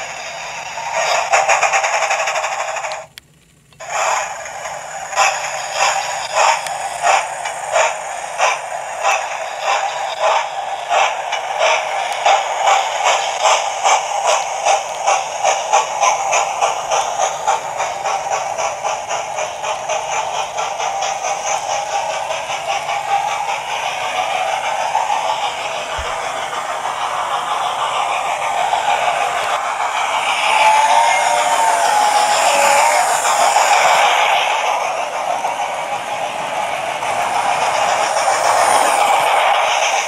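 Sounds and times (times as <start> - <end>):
model steam locomotive chuffing: 0.0 - 40.0.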